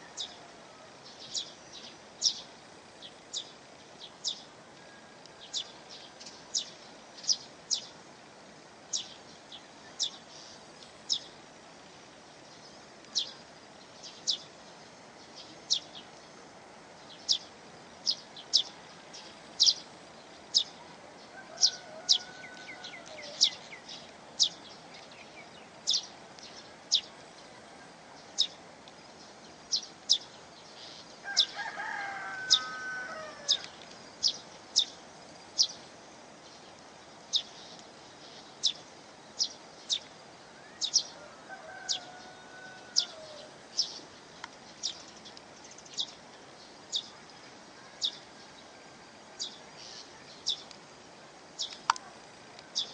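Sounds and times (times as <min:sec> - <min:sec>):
small bird chirping: 0:01.0 - 0:04.5, 0:05.4 - 0:08.0, 0:08.9 - 0:11.4, 0:12.4 - 0:20.9, 0:21.5 - 0:31.6, 0:33.4 - 0:41.2, 0:42.9 - 0:48.7, 0:49.3 - 0:50.8, 0:51.6 - 0:52.9.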